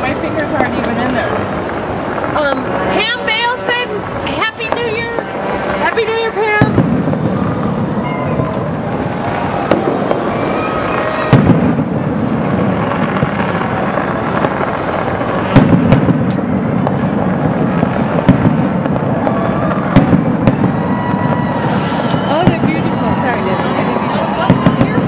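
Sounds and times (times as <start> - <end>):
fireworks bursts and crackle: 0.0 - 25.0
sharp firework bangs: 0.0 - 25.0.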